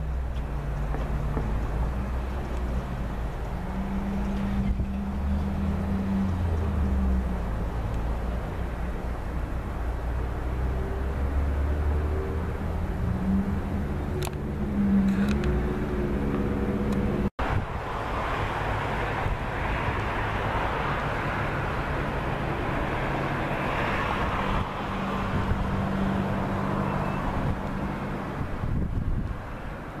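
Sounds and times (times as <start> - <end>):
diesel locomotive engine droning: 0.0 - 29.7
outdoor ambient noise: 0.0 - 30.0.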